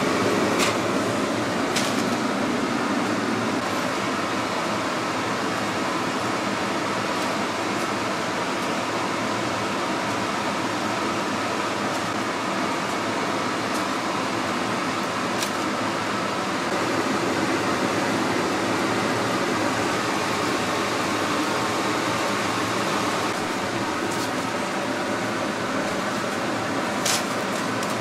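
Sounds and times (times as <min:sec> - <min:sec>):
fan whirring: 0:00.0 - 0:28.0.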